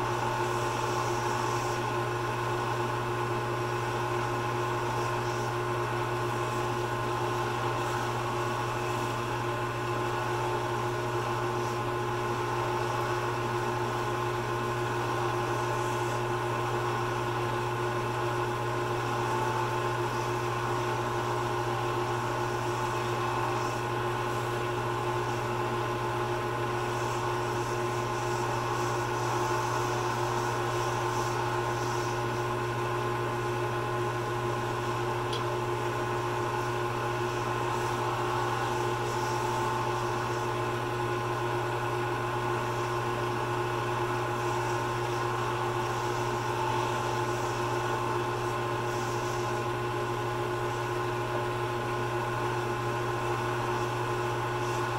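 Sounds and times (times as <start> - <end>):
polishing pad rubbing hiss: 0.0 - 51.6, 52.8 - 54.9
lathe motor humming: 0.0 - 54.9.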